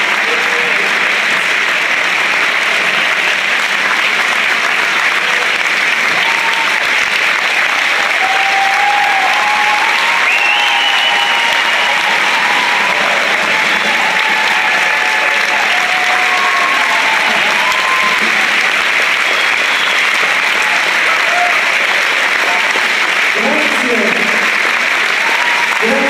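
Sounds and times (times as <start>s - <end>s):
large audience applauding: 0.0s - 26.0s.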